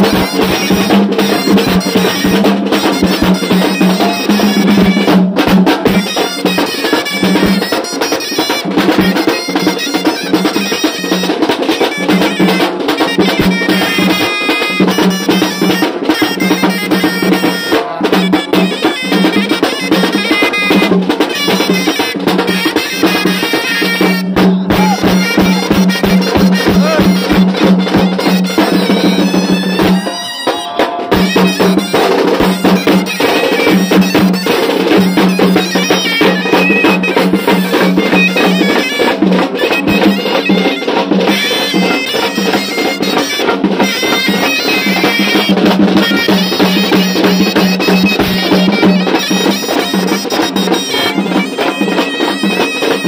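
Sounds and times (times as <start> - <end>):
bass drum and side drum: 0.0 - 53.0
trumpets playing a melody: 0.0 - 53.0.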